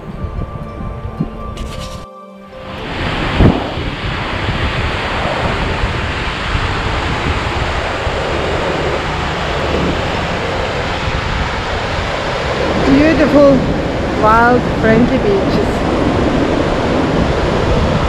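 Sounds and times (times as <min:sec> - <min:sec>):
wind buffeting microphone: 0:00.0 - 0:02.0, 0:02.6 - 0:18.0
surf breaking on rocks: 0:02.7 - 0:18.0.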